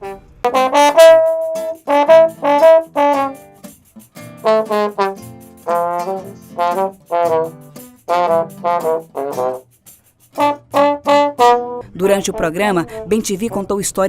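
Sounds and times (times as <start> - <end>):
trombone melody: 0.0 - 13.6
acoustic guitar: 0.0 - 14.0
pandeiro: 0.0 - 14.0.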